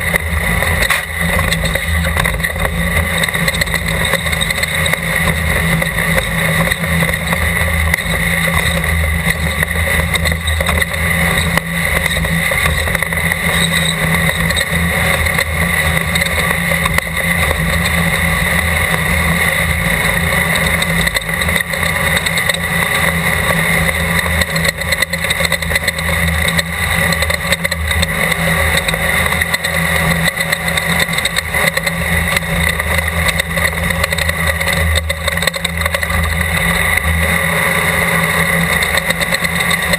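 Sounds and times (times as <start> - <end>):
race car engine running hard: 0.0 - 39.9
rushing noise: 0.0 - 39.9.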